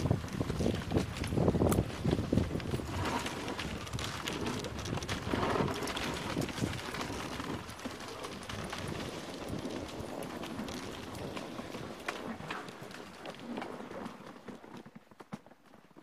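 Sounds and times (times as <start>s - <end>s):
dog paws pattering on snow: 0.0s - 14.9s
sled sliding on snow: 0.0s - 15.1s.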